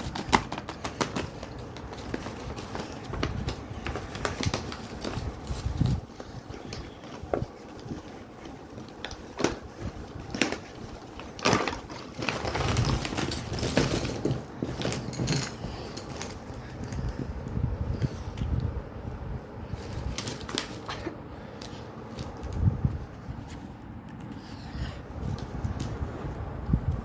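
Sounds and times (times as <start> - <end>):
packaging rustling: 0.0 - 18.2, 19.4 - 24.4.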